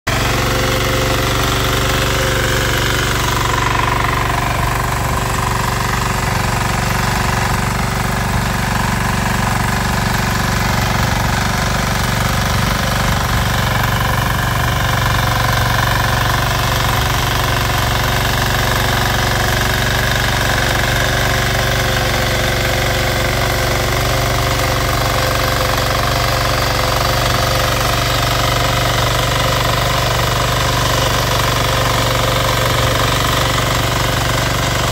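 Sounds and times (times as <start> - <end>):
weeder engine running: 0.0 - 34.9
tines churning soil: 0.1 - 34.9.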